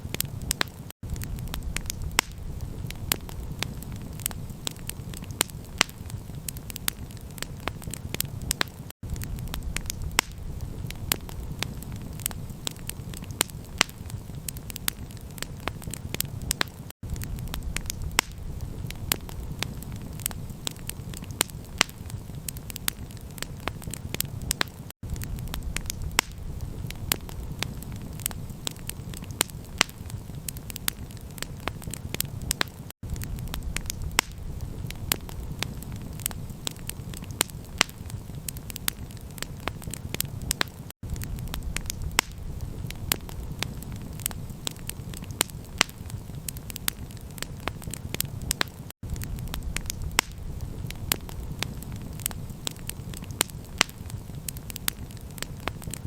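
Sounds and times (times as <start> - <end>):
campfire crackling and popping: 0.0 - 56.0
low rumble of fire: 0.0 - 56.0.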